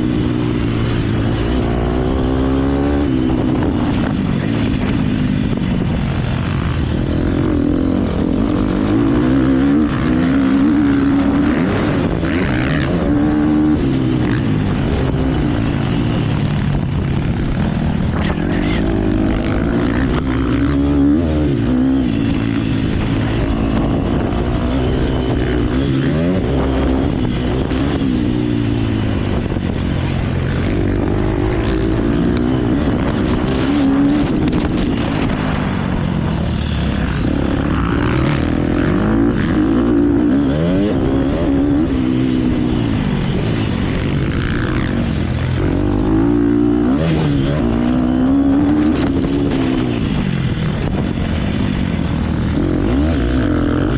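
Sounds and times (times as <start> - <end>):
motocross bike engine revving: 0.0 - 53.9
track noise: 0.0 - 53.9.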